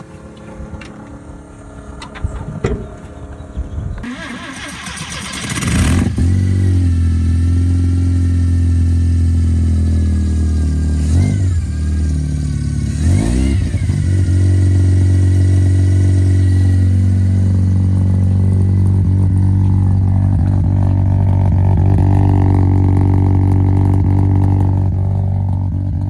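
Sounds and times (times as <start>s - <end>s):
car engine idling: 4.1s - 26.0s.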